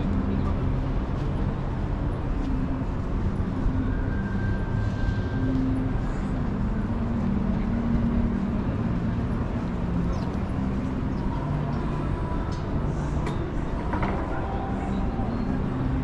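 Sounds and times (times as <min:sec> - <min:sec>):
faint indistinct voices: 0:00.0 - 0:16.0
low city rumble: 0:00.0 - 0:16.0.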